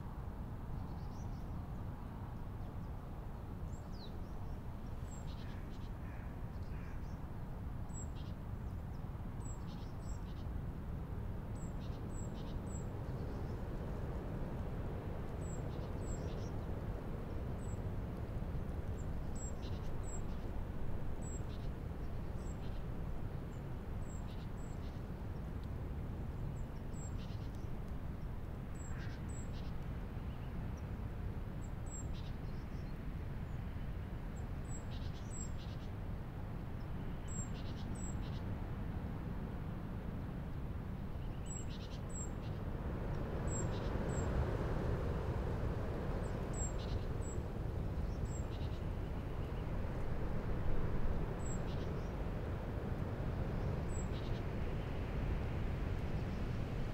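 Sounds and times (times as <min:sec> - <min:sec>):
strong wind through branches: 0:00.0 - 0:56.9.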